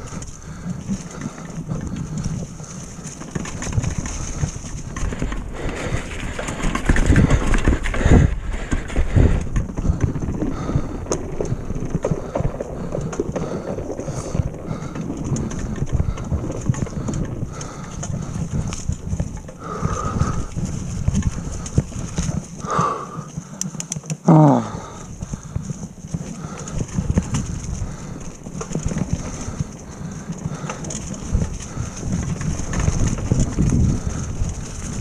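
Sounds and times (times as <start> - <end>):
wind on microphone: 0.0 - 22.9, 24.8 - 35.0
bike knocking on wooden boardwalk: 0.0 - 35.0
bike rattling over bumps: 0.0 - 35.0
bike tyres crunching on trail: 0.0 - 35.0.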